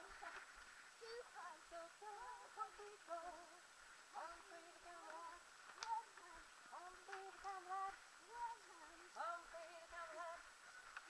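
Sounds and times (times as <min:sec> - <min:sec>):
voices singing faintly: 0:00.0 - 0:11.0.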